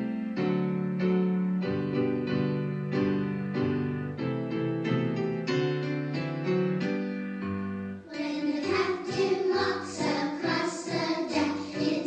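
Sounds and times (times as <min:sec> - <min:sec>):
lively piano playing: 0:00.0 - 0:12.0.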